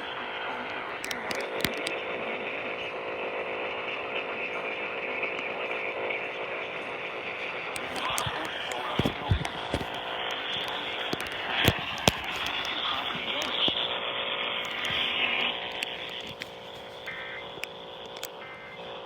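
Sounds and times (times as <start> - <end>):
radio static hiss and crackles: 0.0 - 19.0.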